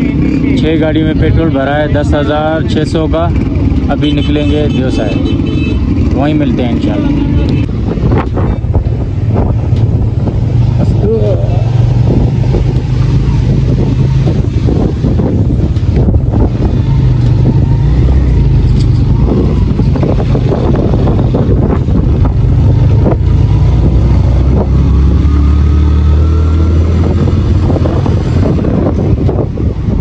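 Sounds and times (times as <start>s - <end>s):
motorcycle engine running: 0.0s - 30.0s
wind noise on microphone: 0.0s - 30.0s.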